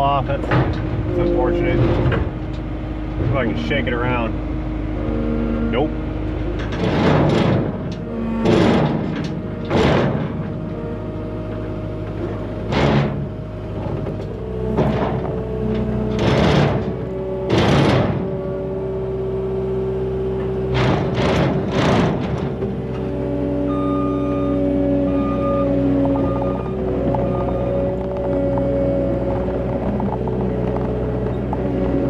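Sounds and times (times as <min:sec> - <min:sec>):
diesel engine under load: 0:00.0 - 0:32.0
scraping clunks: 0:00.0 - 0:32.0.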